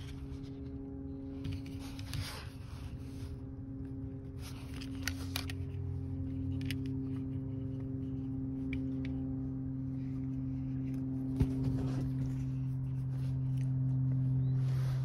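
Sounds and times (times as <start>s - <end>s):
vehicle cab drone: 0.0s - 15.0s.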